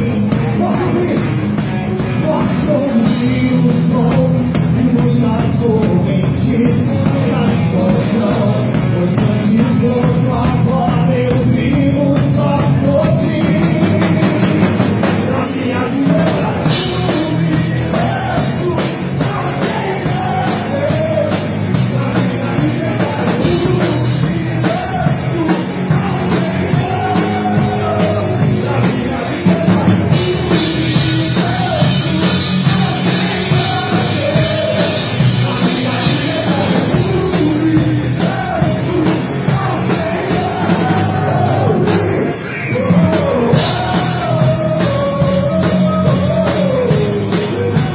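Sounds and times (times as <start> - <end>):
band playing rock worship music: 0.0 - 47.9.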